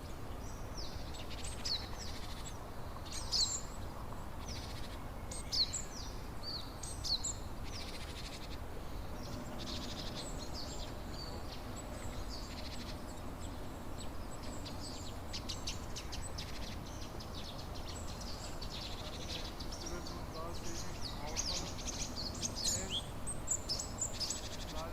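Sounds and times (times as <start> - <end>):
songbirds chirping and trilling: 0.0 - 24.9.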